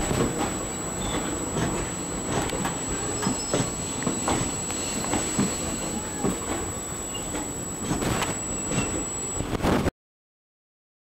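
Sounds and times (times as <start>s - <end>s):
wheels clacking over rail joints: 0.0s - 9.0s
train rail rumble: 0.0s - 9.9s.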